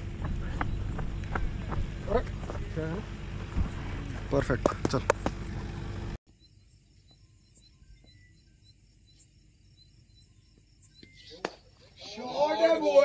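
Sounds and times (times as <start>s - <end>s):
crickets chirping: 0.0s - 5.6s, 6.3s - 13.0s.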